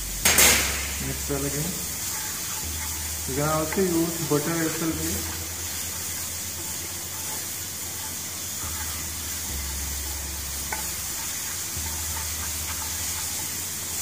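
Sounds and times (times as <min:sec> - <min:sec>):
vegetables sizzling in oil: 0:00.0 - 0:14.0
spatula scraping and tapping pan: 0:00.3 - 0:14.0.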